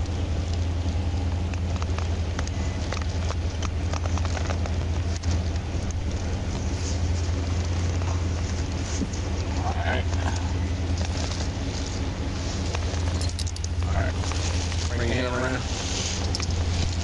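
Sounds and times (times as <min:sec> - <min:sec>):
rustling: 0:00.0 - 0:17.0
vehicle engine idling: 0:00.0 - 0:17.0.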